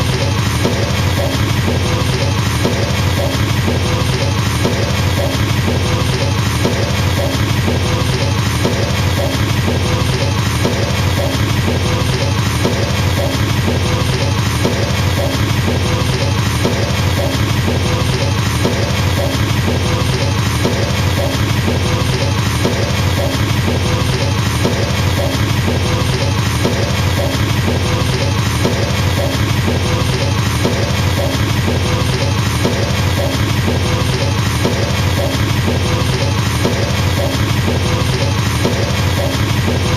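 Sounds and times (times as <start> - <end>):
drum kit pattern: 0.0 - 39.9
fast double bass drum strokes: 0.0 - 39.9.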